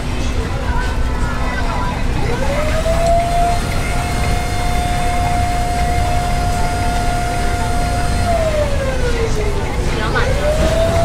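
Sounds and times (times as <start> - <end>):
spinner motor whining: 0.0 - 11.0.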